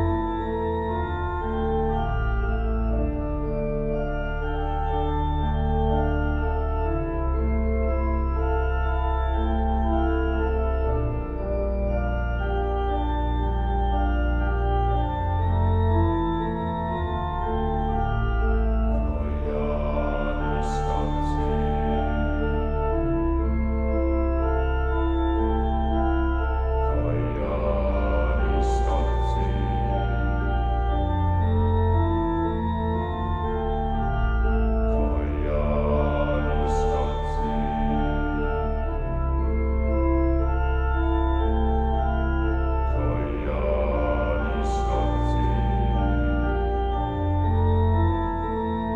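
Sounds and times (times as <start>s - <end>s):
slow organ chords: 0.0s - 48.9s.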